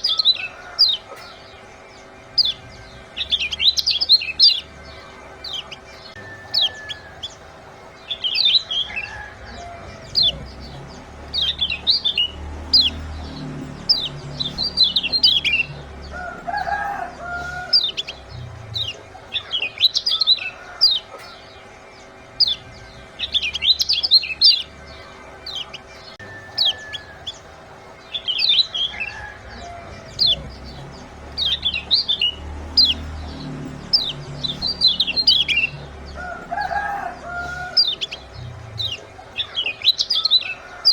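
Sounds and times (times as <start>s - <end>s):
bird chirping: 0.0s - 40.9s
steady low hum: 0.0s - 40.9s.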